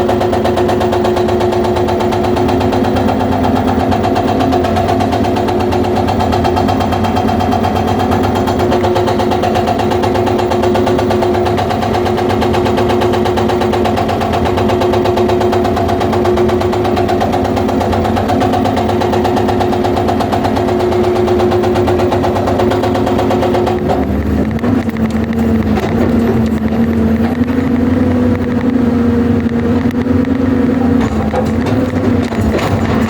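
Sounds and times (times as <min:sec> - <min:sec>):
hydraulic breaker hammering stone: 0:00.0 - 0:27.9, 0:29.9 - 0:33.0
diesel engine running: 0:00.0 - 0:33.0.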